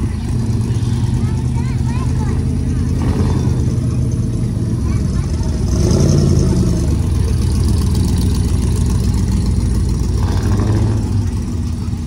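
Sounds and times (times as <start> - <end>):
van engine rumbling: 0.0 - 12.0.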